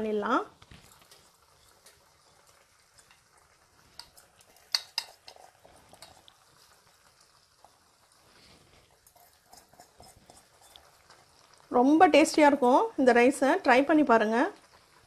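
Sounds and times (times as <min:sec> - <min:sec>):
water boiling in a pan: 0:00.0 - 0:15.0.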